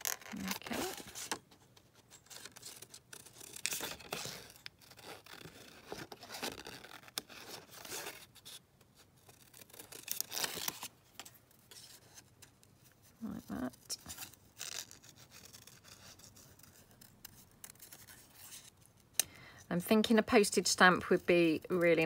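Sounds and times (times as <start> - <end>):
paper rustling and scraping: 0.0 - 19.0.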